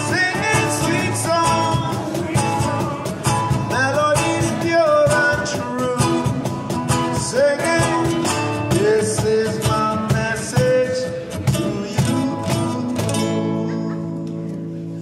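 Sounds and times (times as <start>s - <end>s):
person singing: 0.0s - 14.2s
cajon beats: 0.0s - 14.8s
acoustic guitars strumming: 0.0s - 15.0s.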